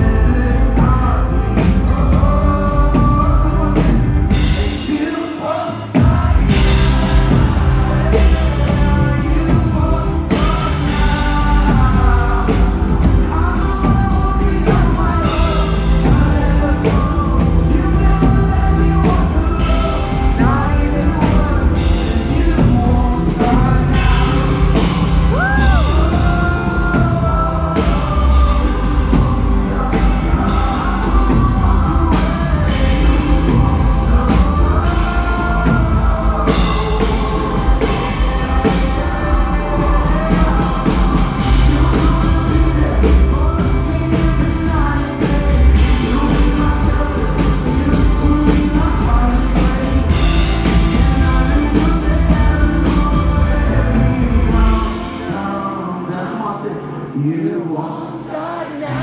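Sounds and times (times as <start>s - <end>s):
drums steady beat: 0.0s - 56.3s
rock band playing: 0.0s - 56.5s
person singing: 0.0s - 59.0s.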